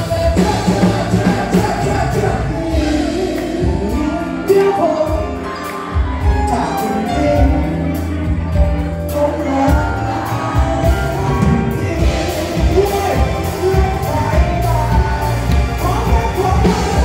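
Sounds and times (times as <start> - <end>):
drums: 0.0 - 17.0
electric bass: 0.0 - 17.0
man singing into a microphone: 0.0 - 17.0.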